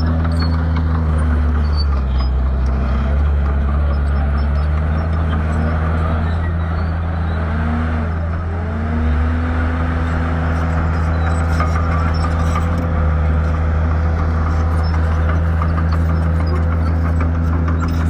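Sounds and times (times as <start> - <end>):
bulldozer diesel engine whining: 0.0 - 18.0.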